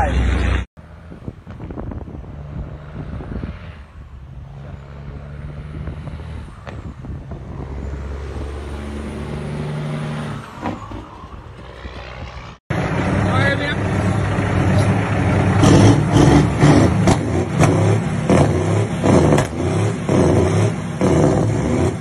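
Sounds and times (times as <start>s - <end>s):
diesel trucks driving past: 0.0s - 22.0s.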